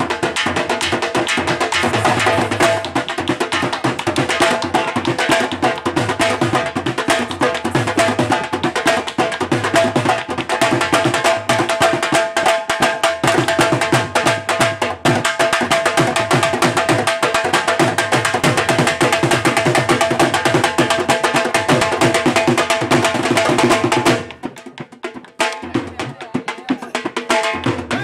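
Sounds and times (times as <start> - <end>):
barrel drums playing fast rhythm: 0.0 - 28.0.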